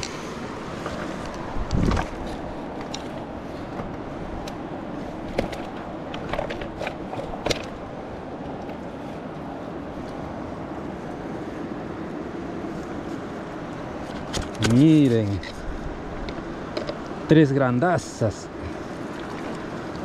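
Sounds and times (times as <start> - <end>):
steady rushing background noise: 0.0 - 20.0.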